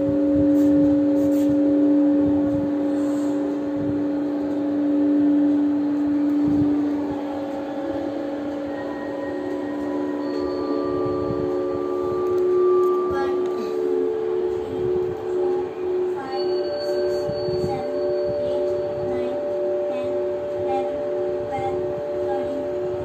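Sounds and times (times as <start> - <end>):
hum of held tones: 0.0 - 23.0
low rumble: 0.0 - 23.0.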